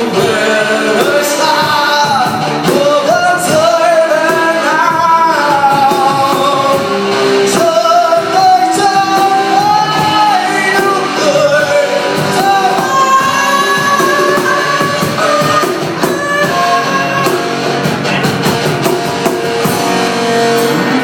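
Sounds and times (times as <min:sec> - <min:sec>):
live rock band: 0:00.0 - 0:21.0
singer holding sliding notes: 0:00.0 - 0:21.0.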